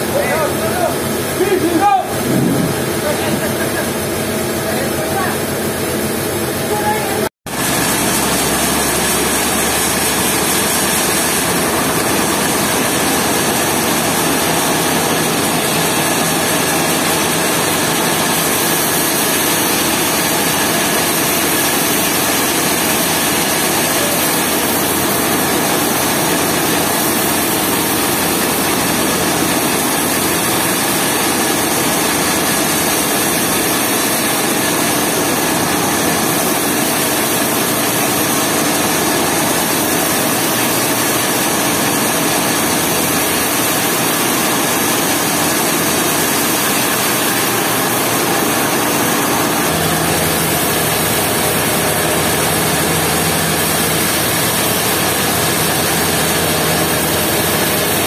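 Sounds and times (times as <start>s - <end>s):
band sawmill cutting log: 0.0s - 58.0s.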